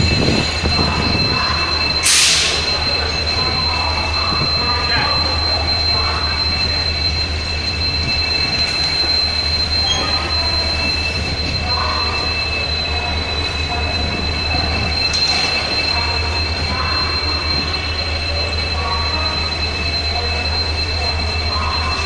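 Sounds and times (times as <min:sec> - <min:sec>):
train coaches rumbling past: 0:00.0 - 0:22.0.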